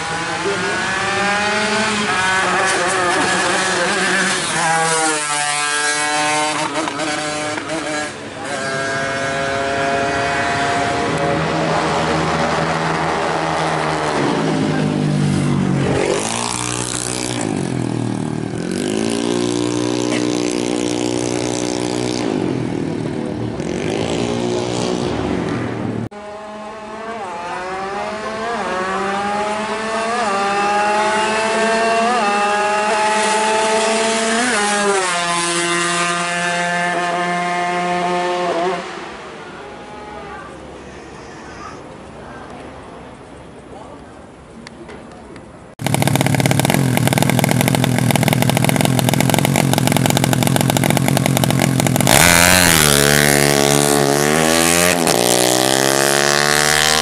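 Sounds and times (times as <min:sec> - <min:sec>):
two-stroke motorcycle engine revving: 0:00.0 - 0:25.2, 0:26.1 - 0:39.0, 0:45.8 - 0:57.0.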